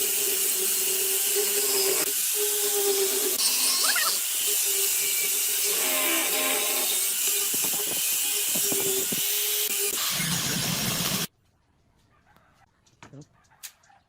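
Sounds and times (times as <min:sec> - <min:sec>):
power tool whining on wood: 0:00.0 - 0:11.3.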